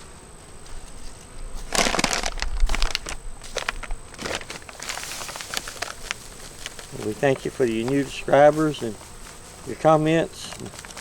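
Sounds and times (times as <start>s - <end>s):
paper and sugar rustling: 0.4s - 11.0s.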